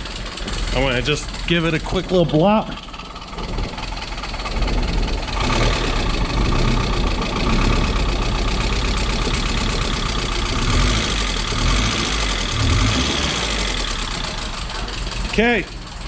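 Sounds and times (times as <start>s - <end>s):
car engine running rough: 0.0s - 16.0s.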